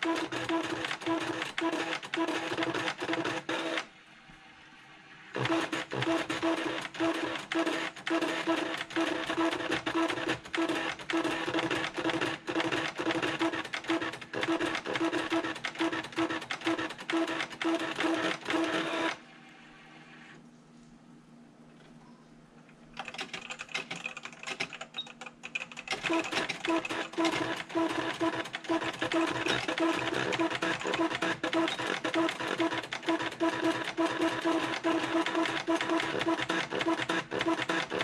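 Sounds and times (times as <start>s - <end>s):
printer clicking and whirring: 0.0s - 3.9s, 5.3s - 19.2s, 23.0s - 38.0s.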